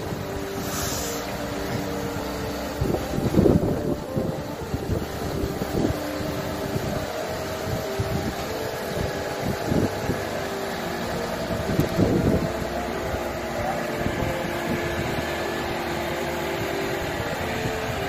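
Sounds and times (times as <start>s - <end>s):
diesel engine humming: 0.0s - 18.0s
wind buffeting microphone: 0.0s - 18.0s.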